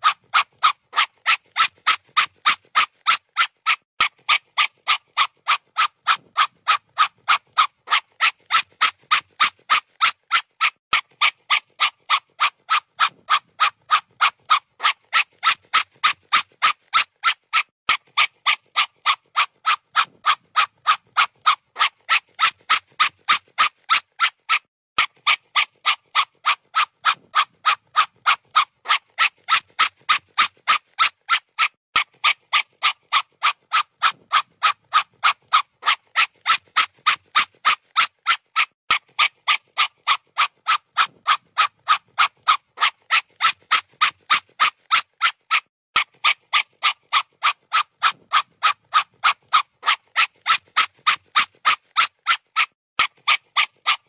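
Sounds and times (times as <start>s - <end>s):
dog panting: 0.0s - 54.0s.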